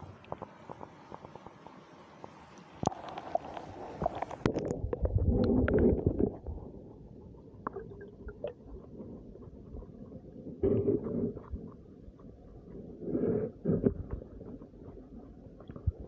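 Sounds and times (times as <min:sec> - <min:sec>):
underwater rumbling and gurgling: 0:00.0 - 0:16.0.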